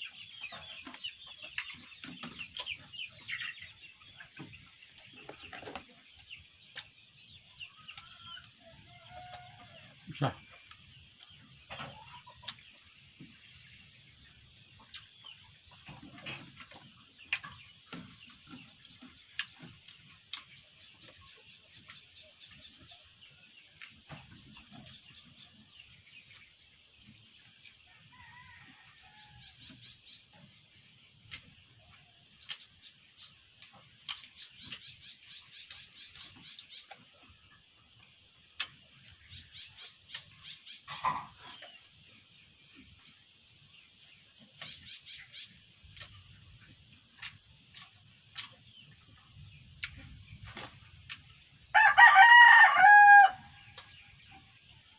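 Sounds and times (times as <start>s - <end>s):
faint chickens clucking: 0.0s - 54.9s.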